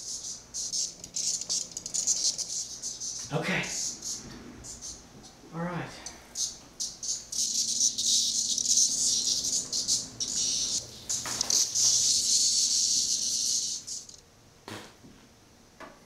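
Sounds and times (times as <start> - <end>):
cicadas buzzing: 0.0 - 14.2.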